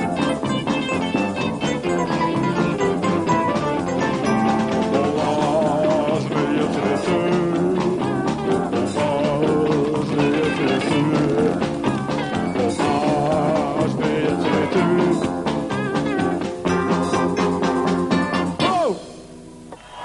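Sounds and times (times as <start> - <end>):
steady drum beat: 0.0 - 19.0
electric guitars: 0.0 - 20.0.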